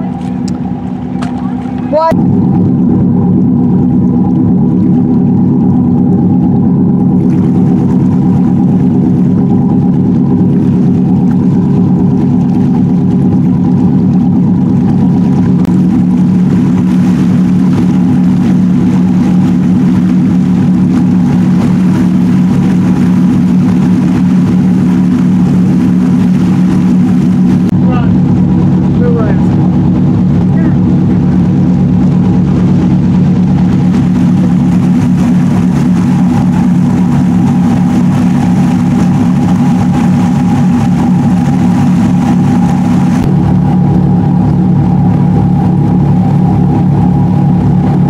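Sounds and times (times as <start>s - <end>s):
broad rushing noise: 0.0s - 48.0s
motorboat engine running: 0.0s - 48.0s.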